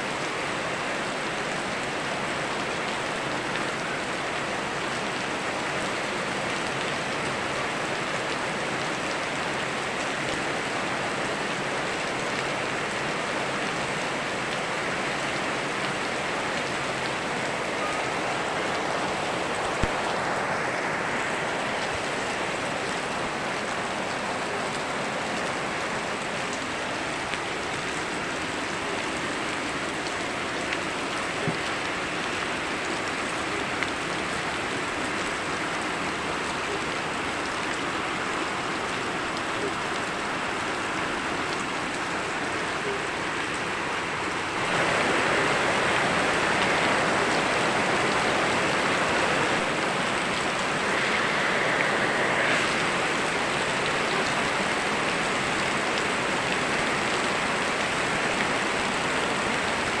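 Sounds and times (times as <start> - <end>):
river flowing: 0.0 - 60.0
steady rain: 0.0 - 60.0.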